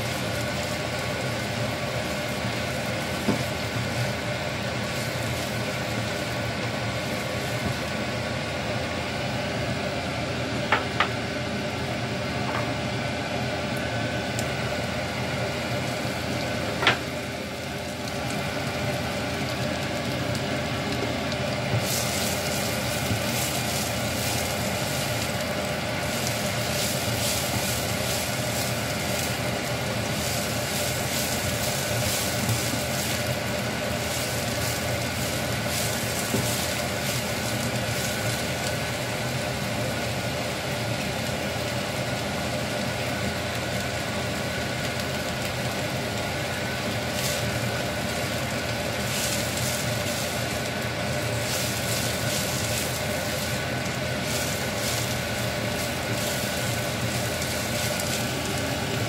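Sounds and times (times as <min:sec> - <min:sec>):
potatoes sizzling in oil: 0:00.0 - 0:59.0.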